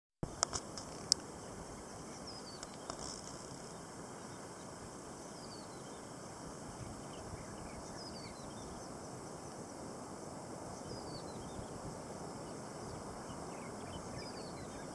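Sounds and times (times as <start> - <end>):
steady background hiss: 0.2 - 14.9.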